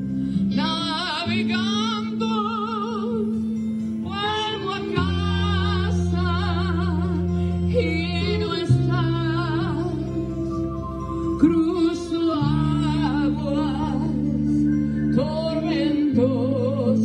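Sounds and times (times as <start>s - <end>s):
held accompaniment chords: 0.0s - 17.0s
woman singing with vibrato: 0.4s - 17.0s.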